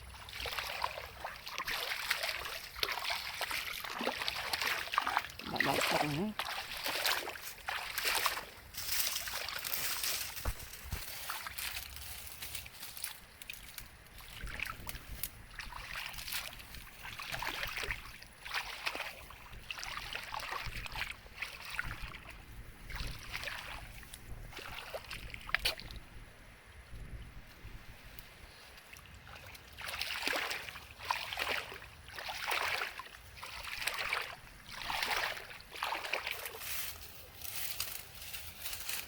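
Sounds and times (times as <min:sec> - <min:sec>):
water sloshing and splashing: 0:00.0 - 0:26.2, 0:28.6 - 0:39.0.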